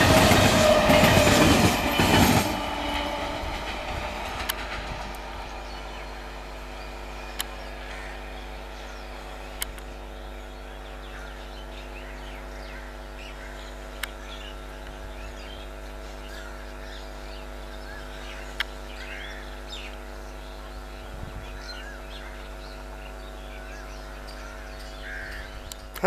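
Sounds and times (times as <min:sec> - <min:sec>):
birds chirping: 0:00.0 - 0:26.0
steady low hum: 0:00.0 - 0:26.0.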